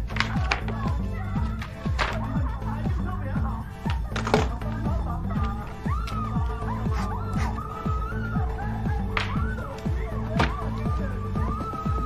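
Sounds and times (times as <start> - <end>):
music with deep bass beat: 0.0 - 12.0.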